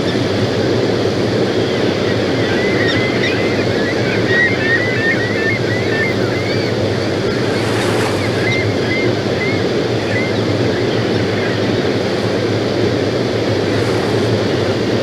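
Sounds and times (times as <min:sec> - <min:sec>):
gulls calling: 0:00.0 - 0:15.0
rushing water: 0:00.0 - 0:15.0.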